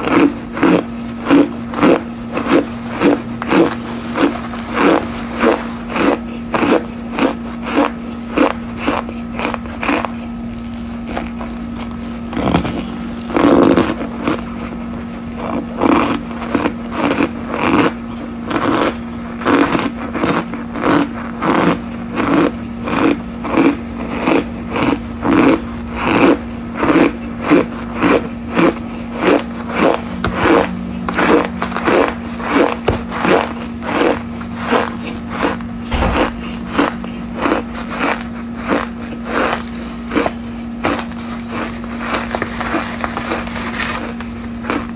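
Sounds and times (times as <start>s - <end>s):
crunchy chewing: 0.0s - 44.9s.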